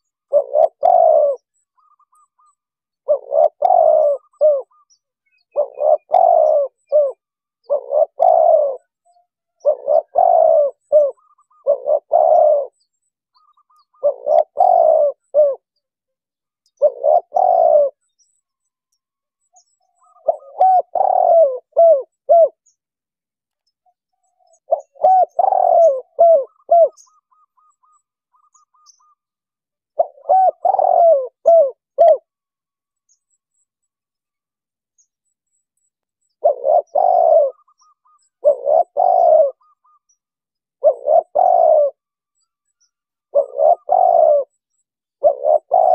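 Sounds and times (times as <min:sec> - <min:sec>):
dove cooing: 0:00.0 - 0:15.8, 0:16.7 - 0:18.0, 0:19.6 - 0:22.7, 0:24.1 - 0:29.2, 0:29.9 - 0:32.4, 0:36.3 - 0:42.1, 0:42.7 - 0:45.9.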